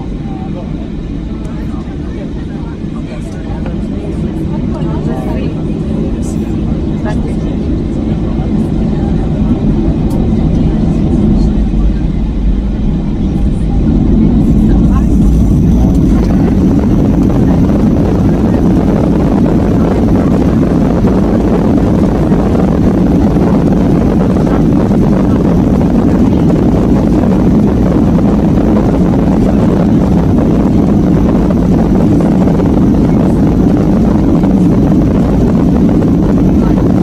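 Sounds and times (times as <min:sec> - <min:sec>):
airliner rolling on runway: 0:00.0 - 0:37.0
jet engines roaring: 0:00.0 - 0:37.0.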